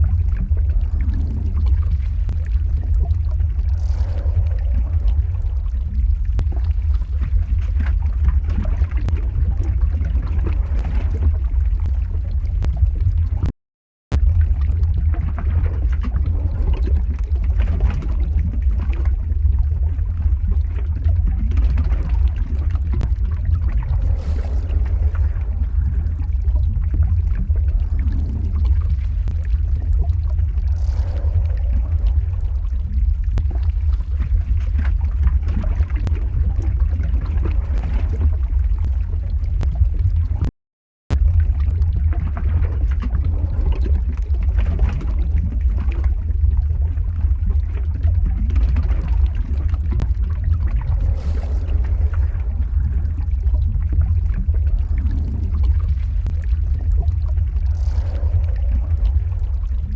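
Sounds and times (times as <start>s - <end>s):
crackling lava: 0.0s - 13.5s, 14.1s - 40.5s, 41.1s - 59.9s
deep rumble: 0.0s - 13.5s, 14.1s - 40.5s, 41.1s - 59.9s.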